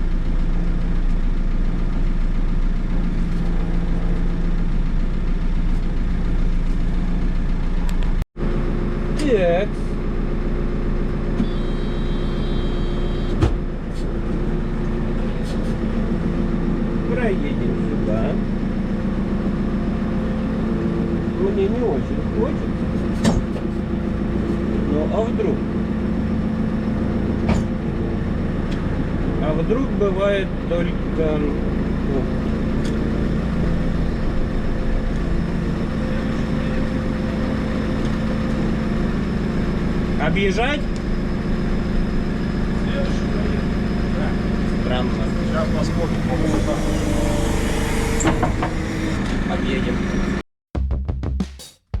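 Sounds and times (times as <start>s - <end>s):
diesel engine running: 0.0s - 50.4s.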